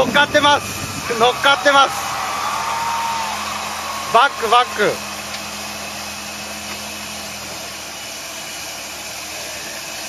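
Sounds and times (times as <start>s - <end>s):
off-road vehicle engine low revs: 0.0s - 10.0s.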